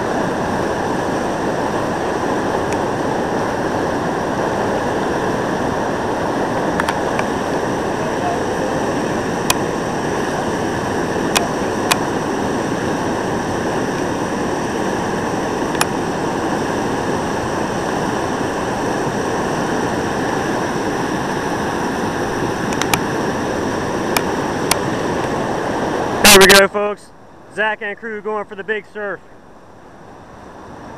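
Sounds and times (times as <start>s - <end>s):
whitewater rapid rushing: 0.0s - 30.9s.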